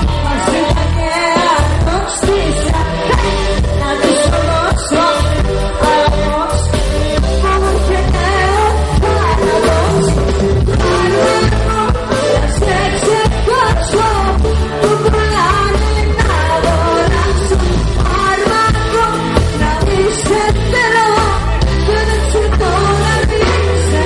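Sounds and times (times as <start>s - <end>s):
loud band with heavy bass: 0.0s - 24.0s
woman singing into microphone: 0.0s - 24.0s.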